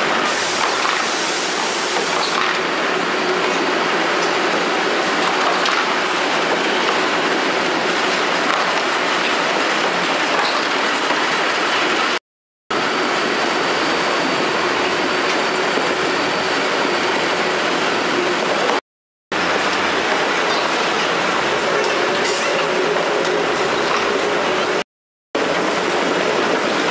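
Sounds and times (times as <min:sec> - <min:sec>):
conveyor machinery running: 0:00.0 - 0:24.8, 0:25.4 - 0:26.9.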